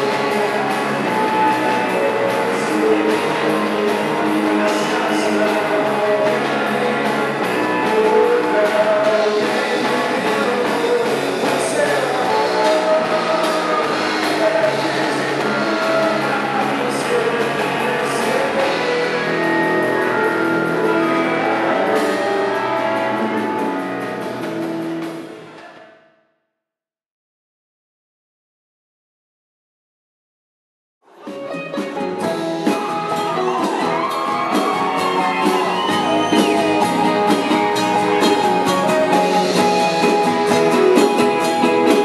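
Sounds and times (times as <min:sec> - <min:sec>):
rock band music with guitar: 0:00.0 - 0:25.5, 0:31.1 - 0:42.0.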